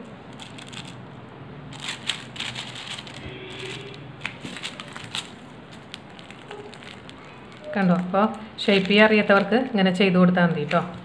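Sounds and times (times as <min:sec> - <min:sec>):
piping bag crinkling: 0:00.0 - 0:01.0, 0:01.7 - 0:11.0.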